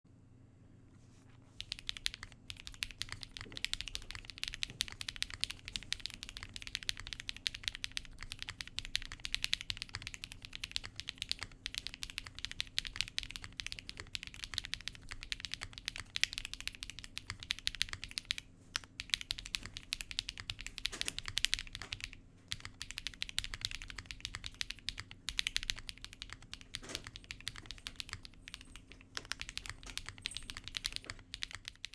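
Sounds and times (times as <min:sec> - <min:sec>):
mechanical keyboard typing: 0:01.5 - 0:31.9.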